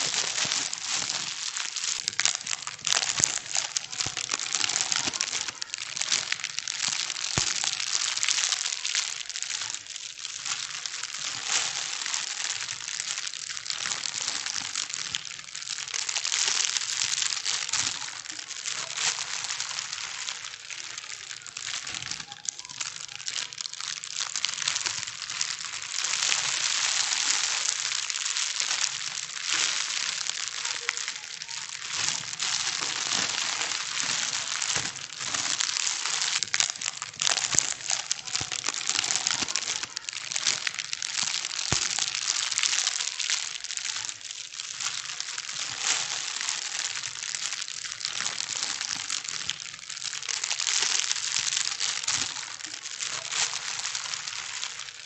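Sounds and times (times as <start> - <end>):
plastic bags crinkling: 0.0 - 55.0.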